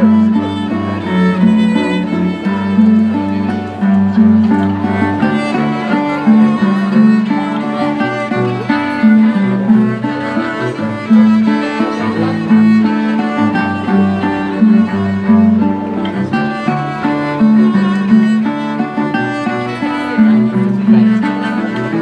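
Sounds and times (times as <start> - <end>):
cello low notes: 0.0 - 22.0
violin playing: 0.0 - 22.0.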